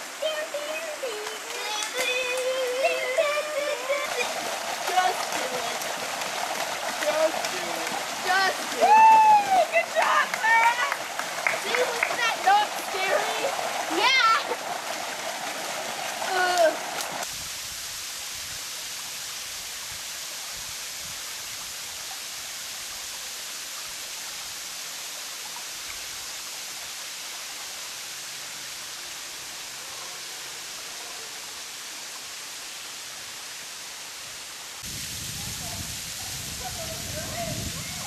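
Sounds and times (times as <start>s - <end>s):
waterfall hissing: 0.0s - 38.0s.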